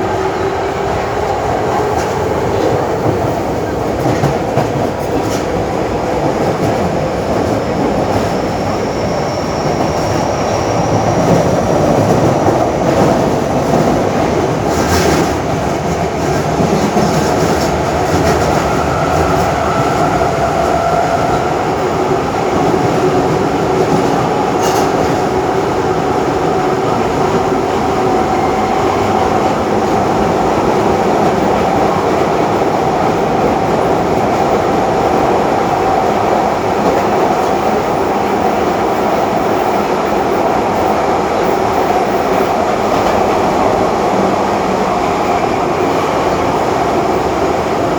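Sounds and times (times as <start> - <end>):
subway train rolling clickety-clack: 0.0 - 47.9.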